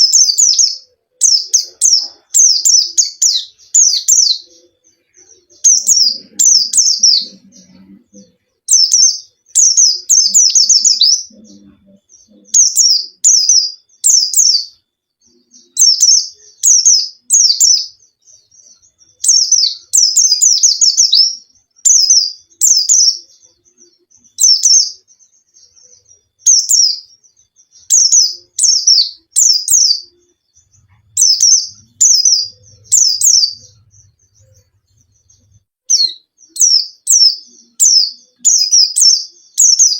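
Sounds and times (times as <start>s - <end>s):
bird singing high falling chirps: 0.0s - 39.9s.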